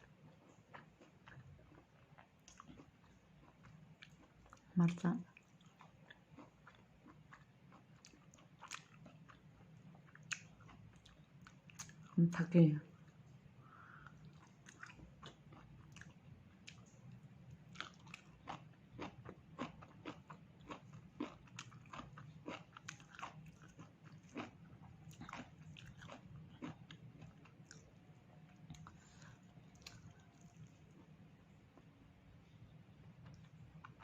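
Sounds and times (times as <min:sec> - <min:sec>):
person chewing: 0:00.0 - 0:04.6, 0:05.4 - 0:12.2, 0:14.0 - 0:31.9
low steady hum: 0:00.0 - 0:34.0.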